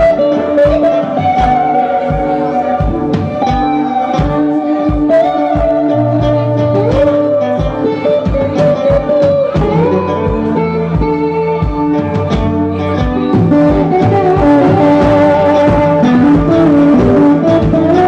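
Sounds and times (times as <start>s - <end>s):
live blues band: 0.0s - 18.0s
slide guitar gliding: 0.0s - 18.0s.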